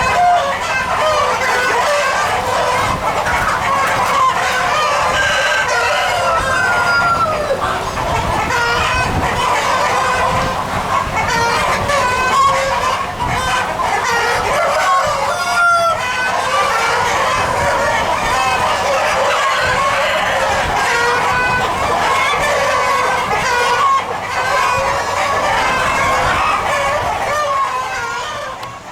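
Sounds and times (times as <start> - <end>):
chickens clucking: 0.0 - 28.9
roosters crowing: 0.0 - 28.9.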